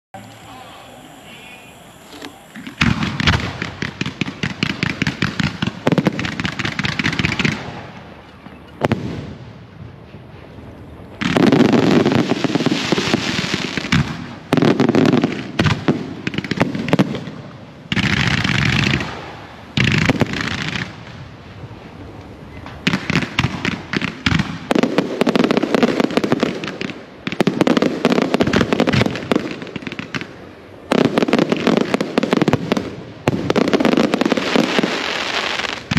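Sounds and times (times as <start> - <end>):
fireworks bangs: 0.2 - 35.9.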